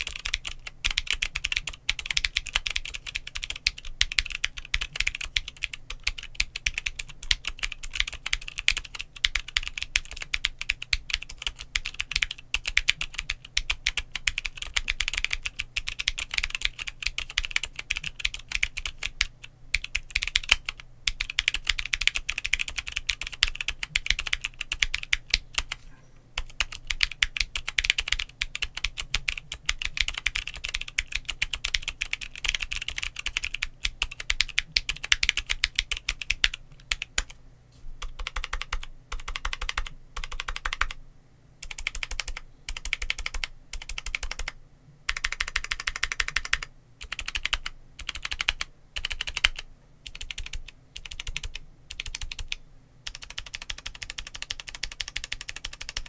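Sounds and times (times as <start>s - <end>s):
mechanical keyboard typing: 0.0s - 25.8s, 26.4s - 37.3s, 38.0s - 41.0s, 41.6s - 56.0s.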